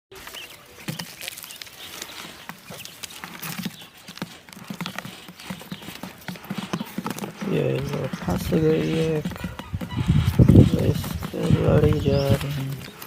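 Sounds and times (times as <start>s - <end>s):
irregular clicking and tapping: 2.4s - 13.0s.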